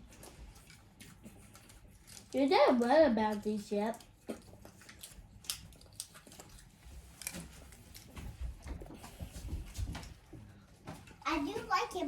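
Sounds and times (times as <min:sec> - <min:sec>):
quiet chewing: 0:00.0 - 0:11.2.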